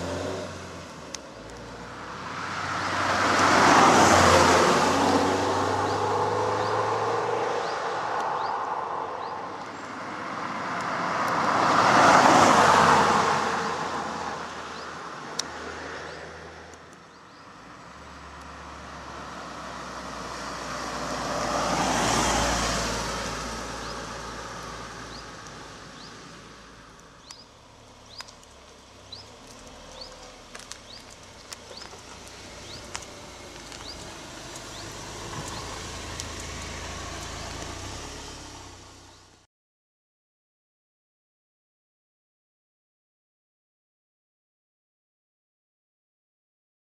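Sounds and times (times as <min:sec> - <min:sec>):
cars driving past: 0:00.0 - 0:39.4.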